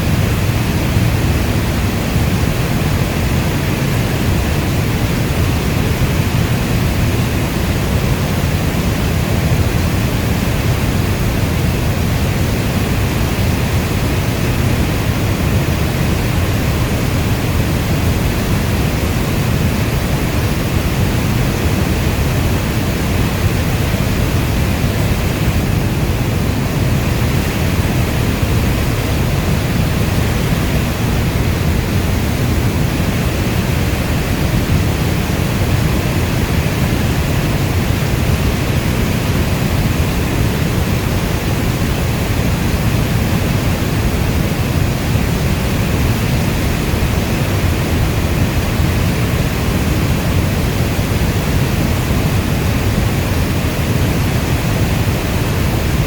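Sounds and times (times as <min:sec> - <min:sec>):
steady heavy rain: 0:00.0 - 0:56.0.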